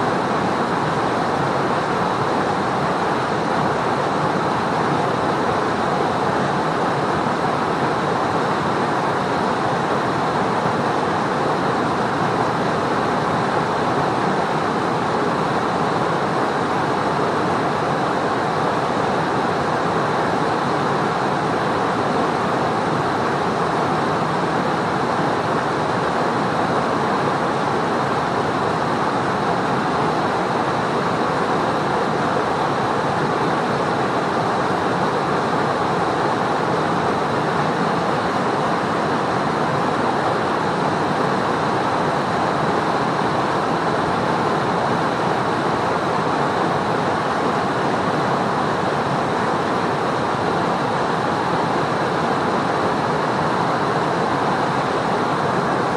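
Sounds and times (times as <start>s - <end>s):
river rushing: 0.0s - 55.9s.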